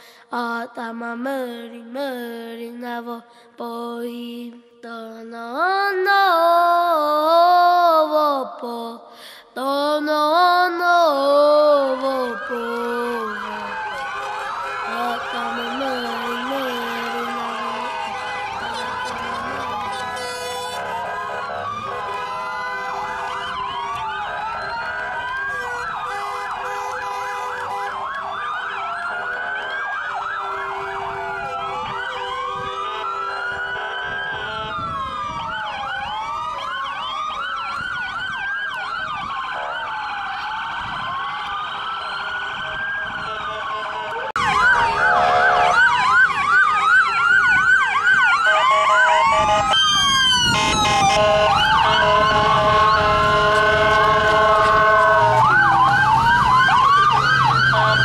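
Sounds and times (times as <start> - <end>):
emergency sirens wailing: 9.7 - 58.0
siren yelping sweeps: 11.2 - 58.0.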